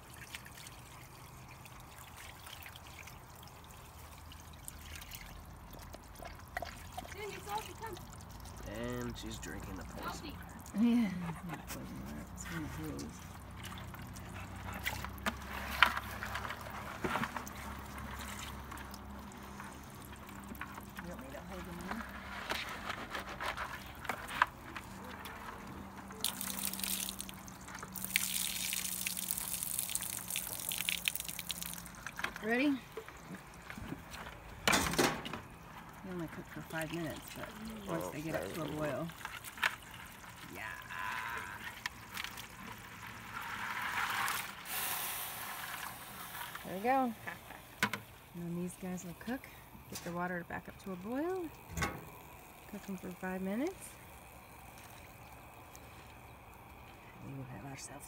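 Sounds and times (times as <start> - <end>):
water trickling onto concrete: 0.0 - 22.2, 23.9 - 34.5, 35.5 - 45.9, 50.1 - 58.0.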